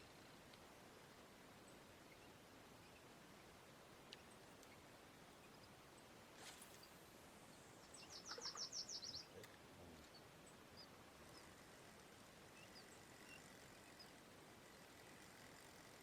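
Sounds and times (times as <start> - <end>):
songbird singing: 1.0 - 16.0
faint bird chirps: 1.6 - 16.0.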